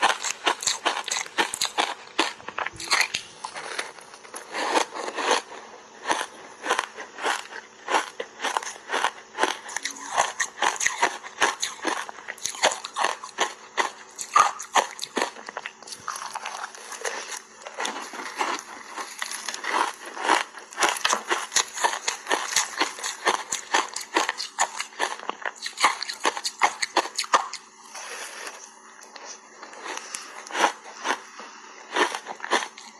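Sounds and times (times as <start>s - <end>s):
crunching ice being chewed: 0.0s - 27.8s, 28.6s - 32.9s.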